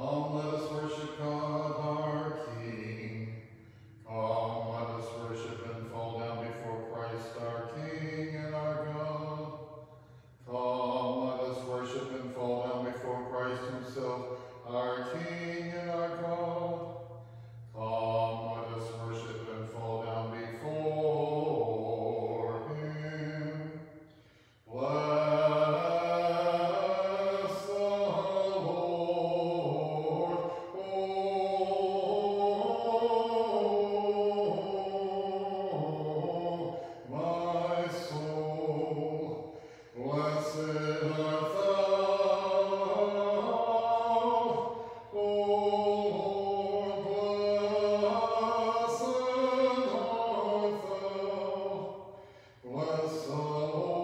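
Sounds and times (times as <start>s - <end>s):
a cappella liturgical chant: 0.0s - 54.0s.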